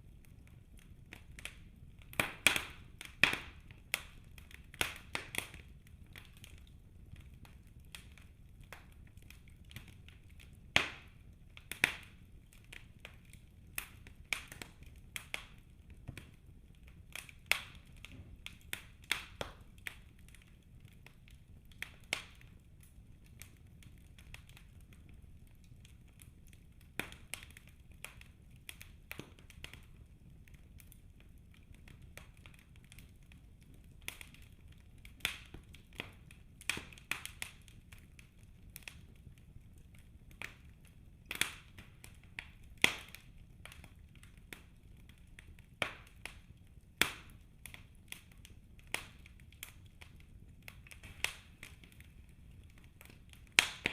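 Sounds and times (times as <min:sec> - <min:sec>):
logs crackling and popping: 0:00.0 - 0:53.9
low rumble of flames: 0:00.0 - 0:53.9.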